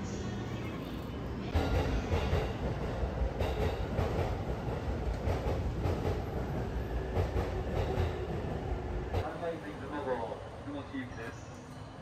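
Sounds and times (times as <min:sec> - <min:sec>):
train equipment rumble and hum: 0:00.0 - 0:10.6.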